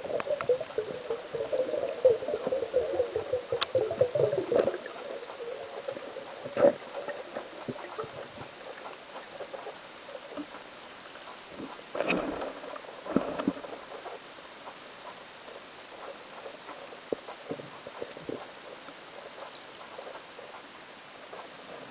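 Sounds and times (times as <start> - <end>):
faint underwater clicks and crackles: 0.0 - 21.9
underwater wavering hum: 0.0 - 21.9.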